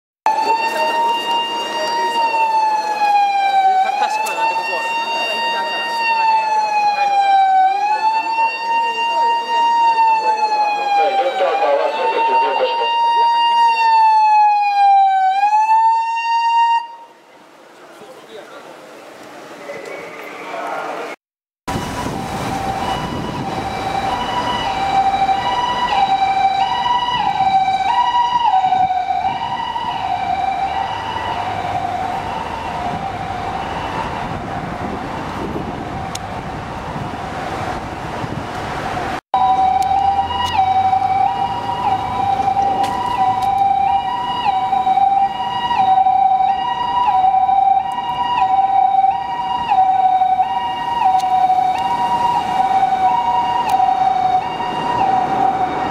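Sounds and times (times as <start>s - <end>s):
two-tone ambulance siren: 0.3s - 17.3s, 21.7s - 38.4s, 39.1s - 55.9s
road traffic: 0.3s - 55.9s.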